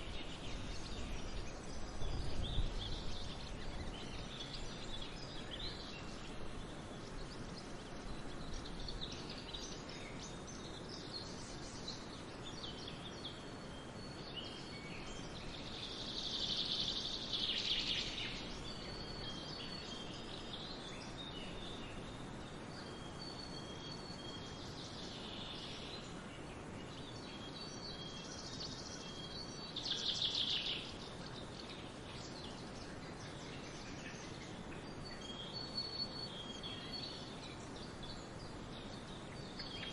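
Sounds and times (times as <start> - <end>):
background hiss: 0.0 - 39.9
small birds chirping: 0.0 - 39.9.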